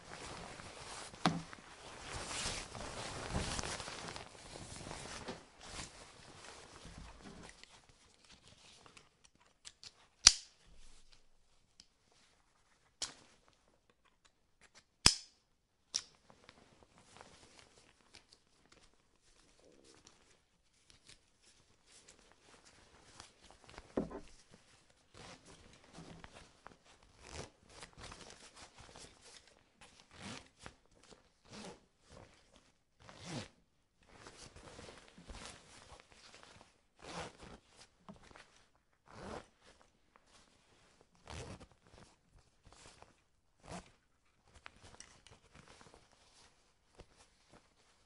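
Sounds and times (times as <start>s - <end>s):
synthetic fabric rustling: 0.0s - 8.8s, 16.4s - 48.0s.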